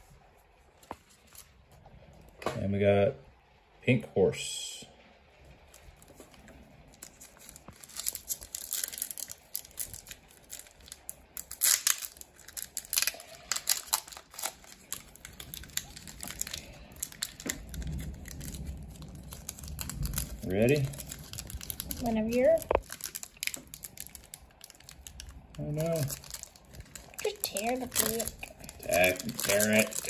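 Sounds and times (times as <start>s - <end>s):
foil pack crinkling and tearing: 5.7s - 30.0s.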